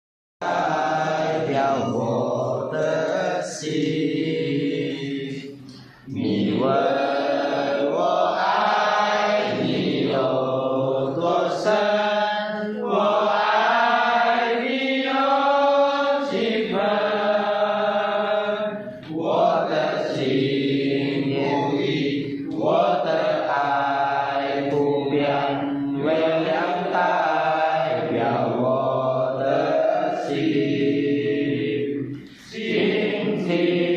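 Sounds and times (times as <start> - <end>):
men chanting in unison: 0.4 - 33.9.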